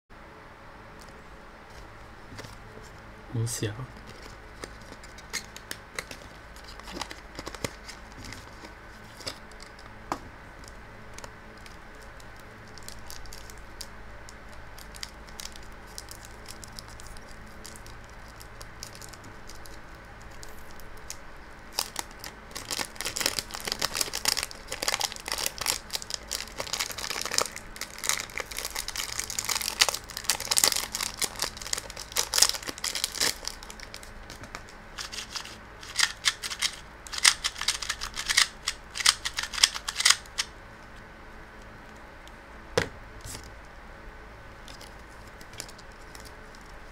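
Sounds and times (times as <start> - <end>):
plastic wrapping crinkling and tearing: 3.9 - 9.9, 10.6 - 40.5, 44.6 - 46.9.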